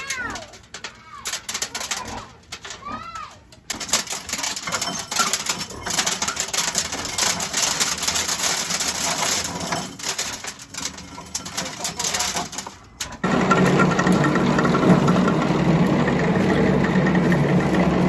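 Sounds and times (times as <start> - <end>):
grain mill cracking corn: 0.0 - 18.0.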